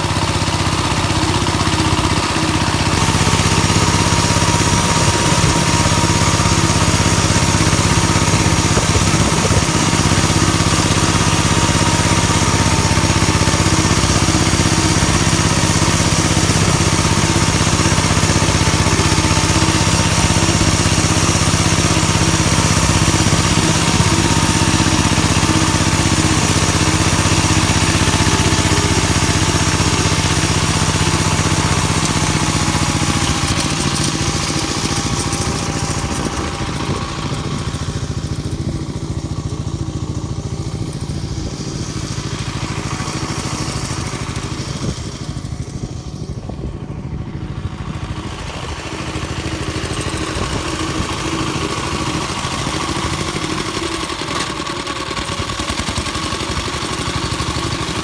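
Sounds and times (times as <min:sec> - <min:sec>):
rotary tiller through soil: 0:00.0 - 0:58.0
tractor engine running under load: 0:00.0 - 0:58.0.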